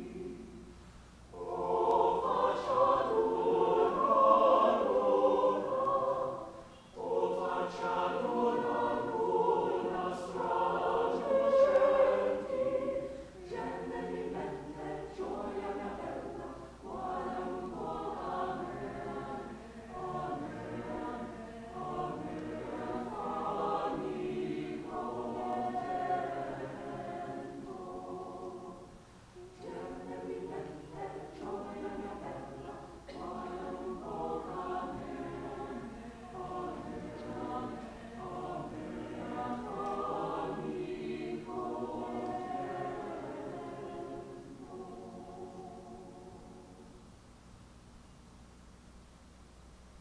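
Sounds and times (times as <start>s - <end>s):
mixed choir singing: 0.0s - 47.0s.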